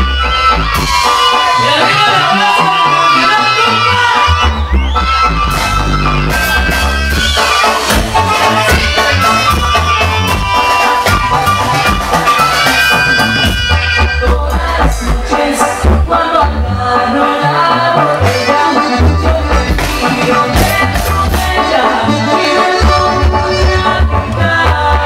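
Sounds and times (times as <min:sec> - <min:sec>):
live band playing instrumental: 0:00.0 - 0:25.0.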